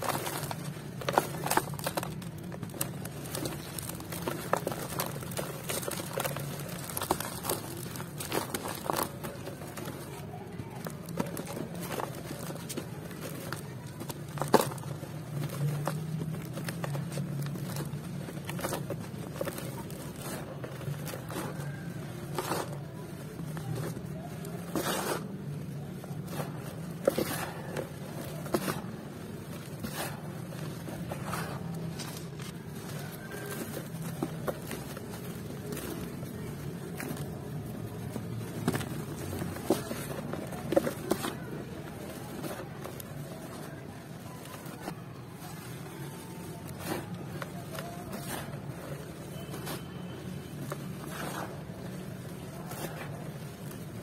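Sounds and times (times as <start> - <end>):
cement crunching and crackling: 0.0 - 54.0.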